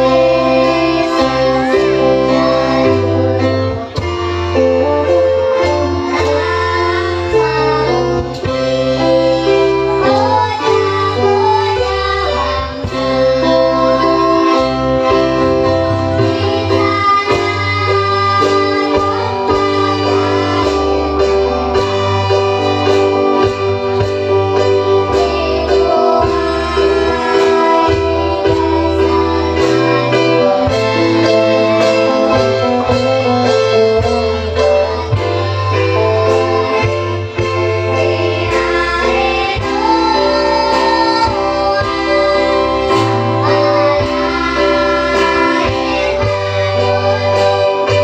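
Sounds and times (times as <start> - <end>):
child singing: 0.0 - 48.0
guitar and bass backing: 0.0 - 48.0.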